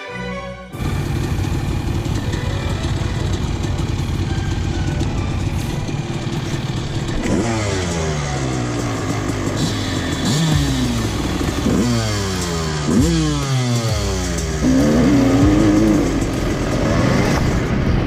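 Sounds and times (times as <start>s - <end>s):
dirt bike engine revving: 0.8s - 18.0s.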